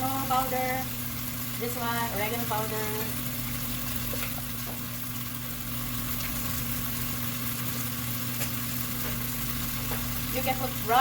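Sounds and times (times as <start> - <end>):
chicken sizzling in a pan: 0.0 - 11.0
low electrical hum: 0.0 - 11.0.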